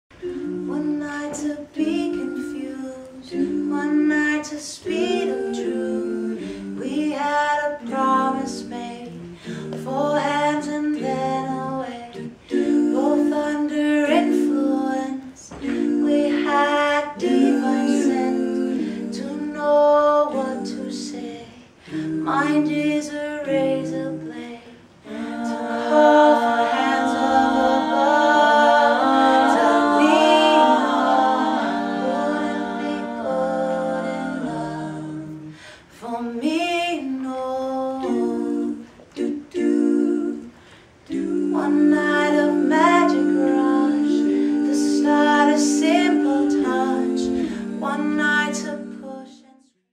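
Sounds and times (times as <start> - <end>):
women singing a cappella in harmony: 0.1 - 49.9.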